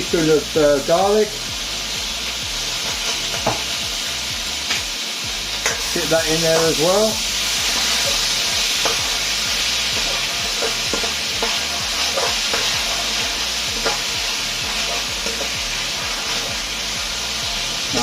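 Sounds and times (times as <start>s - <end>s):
food sizzling in a wok: 0.0s - 18.0s
stirring strokes in a wok: 0.8s - 18.0s.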